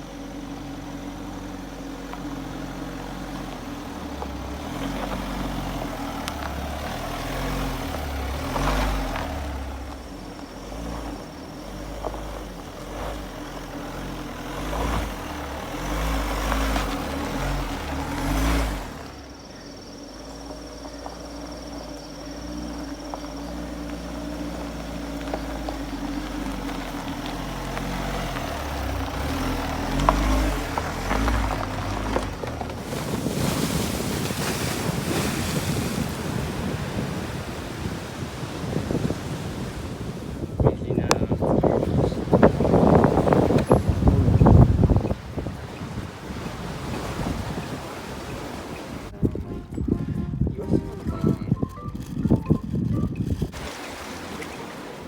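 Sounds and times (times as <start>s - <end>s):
van engine and road drone: 0.0s - 55.0s.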